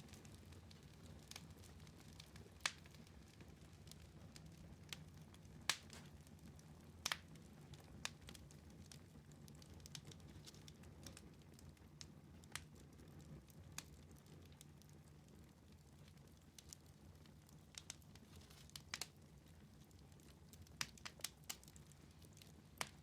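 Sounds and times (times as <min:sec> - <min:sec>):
wood fire crackling in fireplace: 0:00.0 - 0:23.0.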